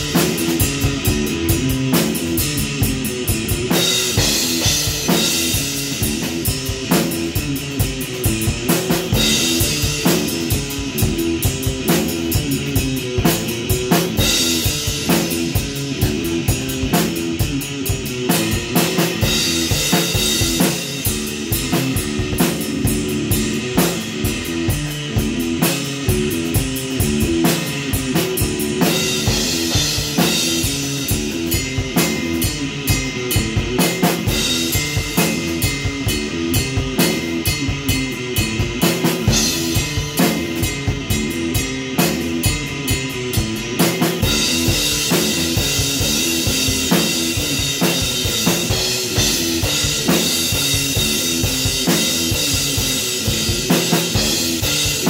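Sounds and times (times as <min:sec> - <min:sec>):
electric guitar riff: 0:00.0 - 0:55.0
rock drum beat: 0:00.0 - 0:55.0.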